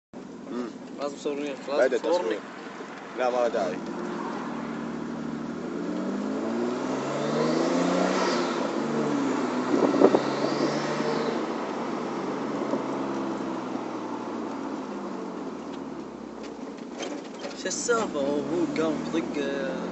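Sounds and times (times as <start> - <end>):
car engine accelerating: 2.1 - 19.9.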